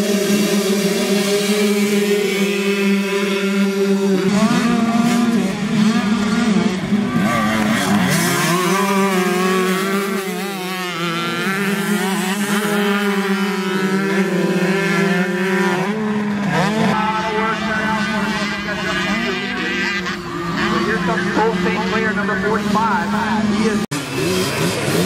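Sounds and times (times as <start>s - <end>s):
dirt-bike engines revving: 0.0s - 25.0s.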